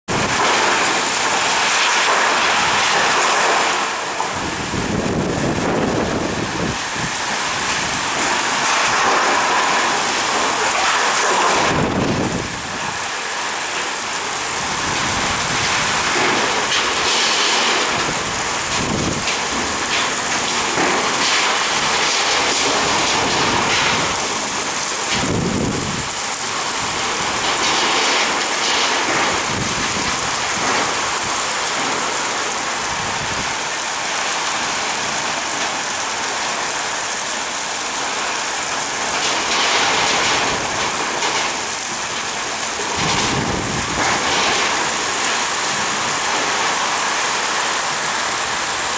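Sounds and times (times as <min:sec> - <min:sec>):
heavy rain with wind: 0:00.1 - 0:48.9.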